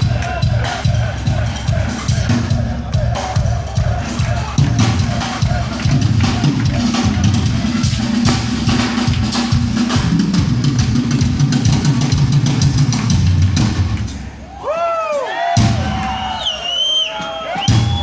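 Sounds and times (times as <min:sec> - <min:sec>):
metal drum solo: 0:00.0 - 0:14.4, 0:15.1 - 0:16.1, 0:17.2 - 0:18.0.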